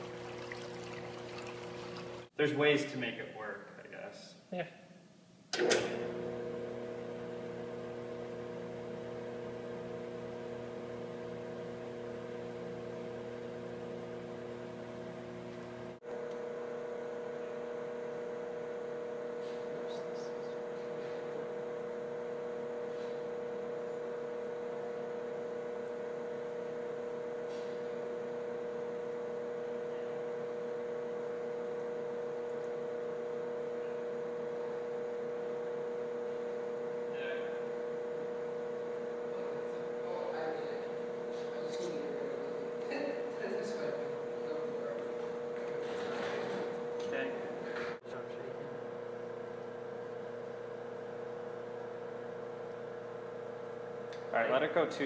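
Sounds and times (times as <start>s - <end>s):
electrical mechanical hum: 0.0s - 55.0s.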